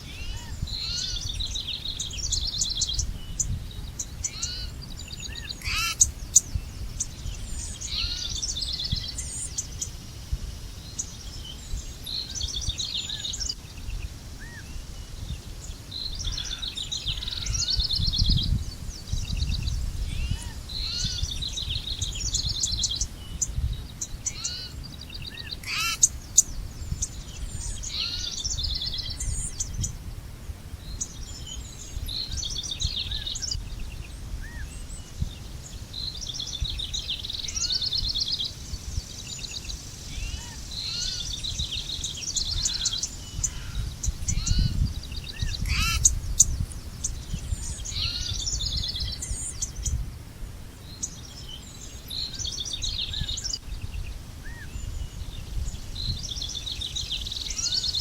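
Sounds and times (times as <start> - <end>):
birds chirping and trilling: 0.0 - 30.0, 30.8 - 58.0.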